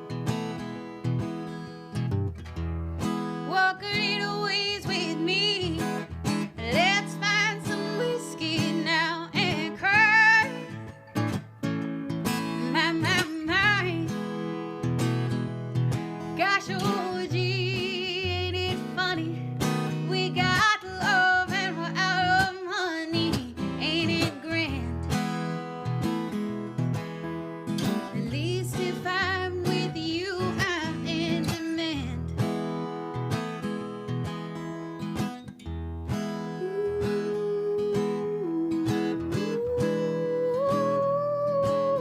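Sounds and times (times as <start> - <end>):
acoustic guitar strumming: 0.0 - 42.0
woman singing country song: 3.0 - 26.3, 27.2 - 42.0.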